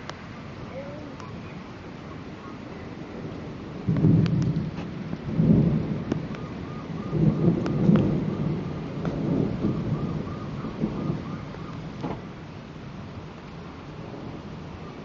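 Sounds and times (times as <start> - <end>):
steady rain: 0.0 - 15.0
thunder rumbling: 0.0 - 15.0
sharp crackles of thunder: 2.3 - 15.0.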